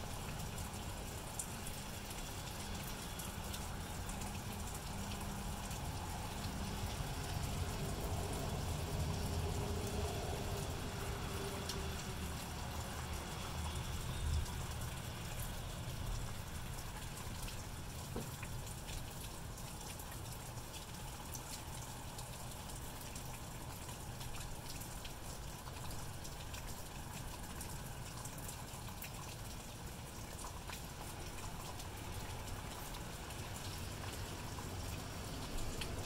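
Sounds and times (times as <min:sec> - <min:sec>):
light rain falling: 0:00.0 - 0:36.0
raindrops ticking: 0:00.0 - 0:36.0.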